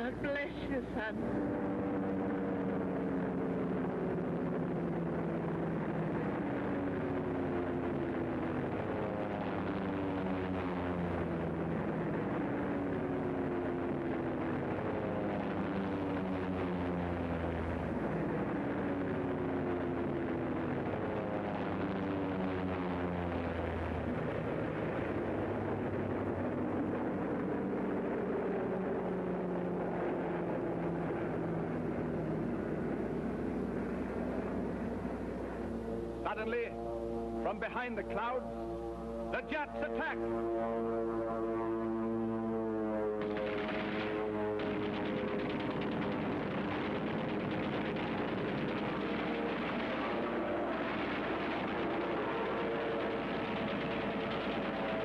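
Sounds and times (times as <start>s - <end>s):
piston aircraft engines running: 0.0s - 55.0s.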